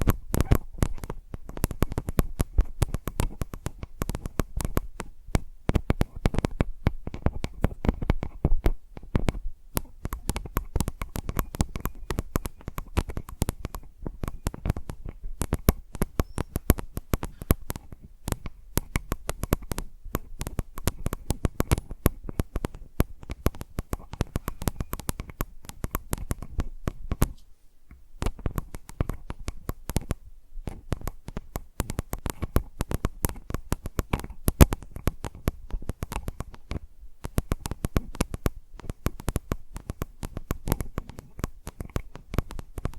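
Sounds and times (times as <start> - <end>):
fingers tapping on microphone: 0.0 - 42.9.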